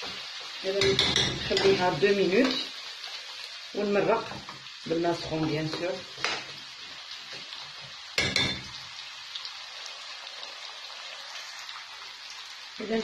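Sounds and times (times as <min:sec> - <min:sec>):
meat and vegetables sizzling in a pan: 0:00.0 - 0:13.0.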